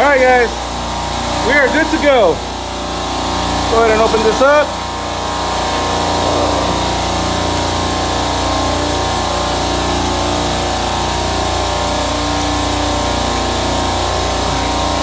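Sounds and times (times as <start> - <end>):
compressor machine hum: 0.0 - 15.0.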